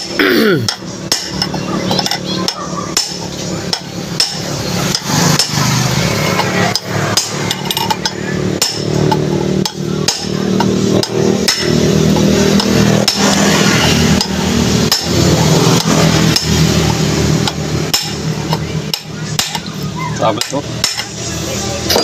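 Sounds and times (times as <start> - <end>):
metal-on-metal knocks: 0.7 - 13.4, 14.2 - 19.7.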